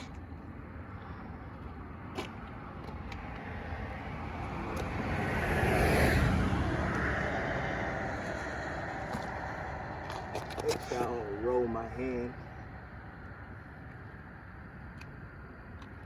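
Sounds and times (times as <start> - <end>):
car passing: 0.7 - 15.7.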